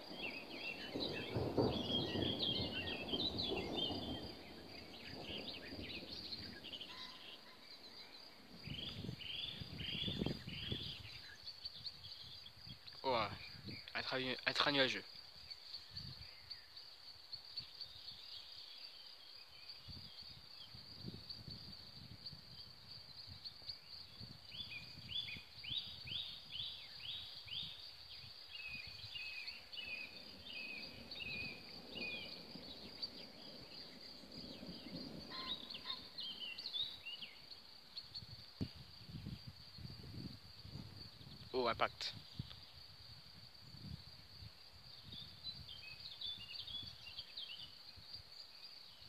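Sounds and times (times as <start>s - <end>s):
crickets trilling: 0.0s - 49.0s
songbird chirping: 0.0s - 49.0s.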